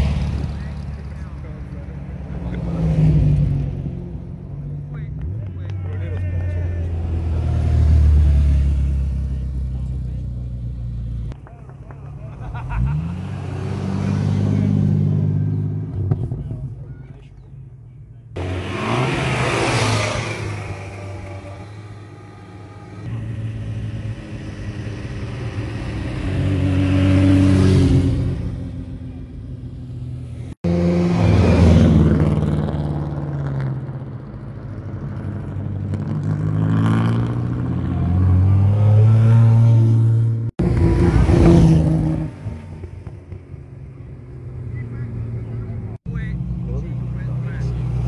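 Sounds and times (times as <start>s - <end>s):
cars driving past: 0.0s - 48.0s.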